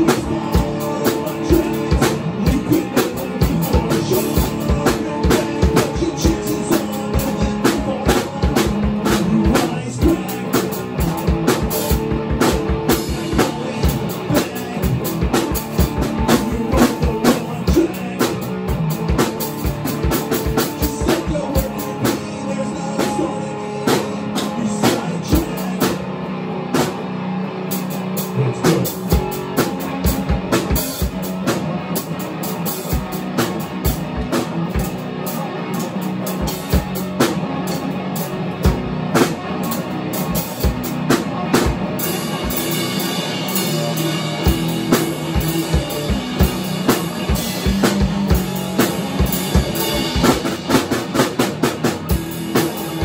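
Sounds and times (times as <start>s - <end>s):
drum kit playing: 0.0s - 53.0s
electric guitar: 0.0s - 53.0s.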